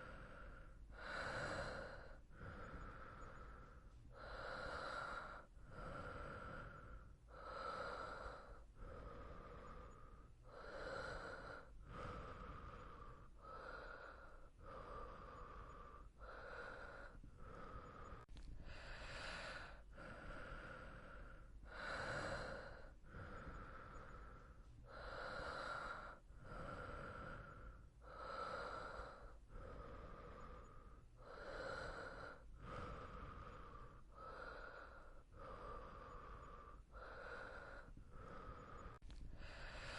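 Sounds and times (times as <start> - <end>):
person breathing in sleep: 0.0 - 39.9.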